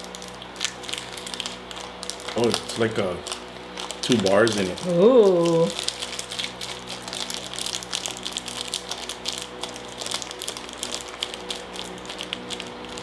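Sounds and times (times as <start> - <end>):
faint steady hum: 0.0 - 13.0
wrapper crinkling: 0.0 - 13.0.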